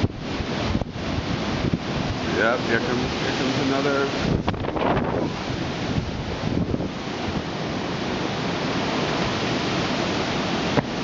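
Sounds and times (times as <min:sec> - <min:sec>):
strong wind rushing: 0:00.0 - 0:11.0
wind buffeting microphone: 0:00.0 - 0:11.0.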